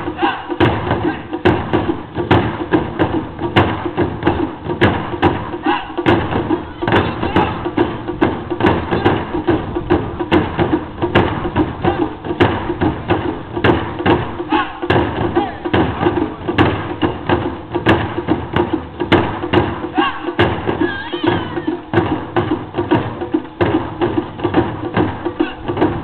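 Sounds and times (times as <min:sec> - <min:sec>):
taiko drums struck in rhythm: 0:00.0 - 0:26.0.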